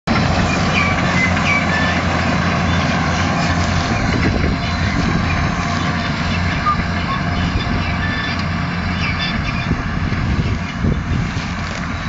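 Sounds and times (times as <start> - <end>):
tractor and baler drone: 0.1 - 12.0.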